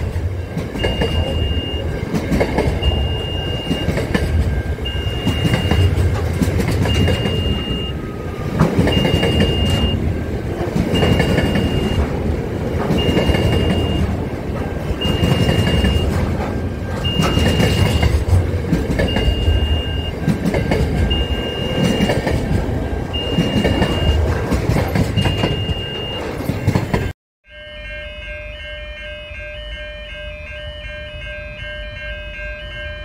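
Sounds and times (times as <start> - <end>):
freight train wheels rumbling: 0.0 - 27.2
level crossing alarm beeping: 0.0 - 33.0.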